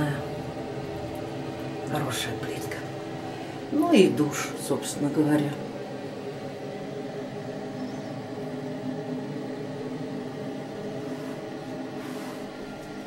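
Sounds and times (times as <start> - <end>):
mechanical hum with low tones: 0.0 - 13.0.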